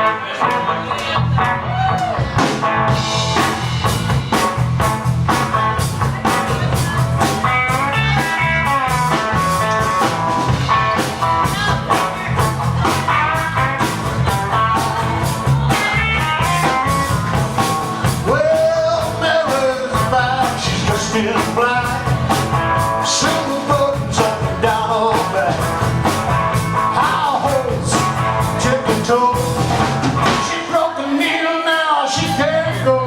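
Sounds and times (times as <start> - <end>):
electric guitar lines: 0.0 - 30.6
drum kit beat: 0.5 - 32.9.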